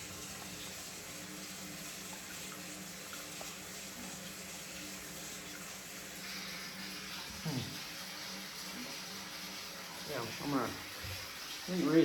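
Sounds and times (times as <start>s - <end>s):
faucet water running down drain: 0.0s - 12.0s.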